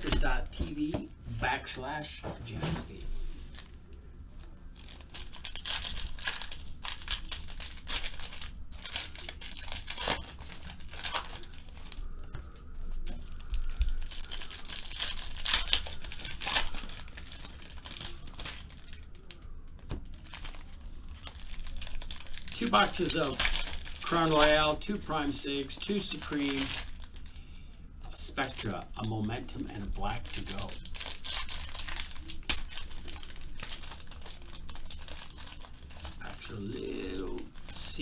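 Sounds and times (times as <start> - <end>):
foil packs crinkling and tearing: 4.4 - 12.2, 13.1 - 27.6, 28.2 - 38.0.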